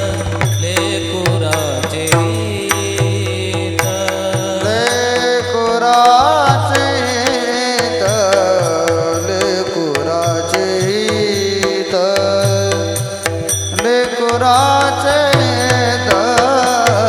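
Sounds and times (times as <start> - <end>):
drum strokes: 0.0 - 17.0
person singing: 0.0 - 17.0.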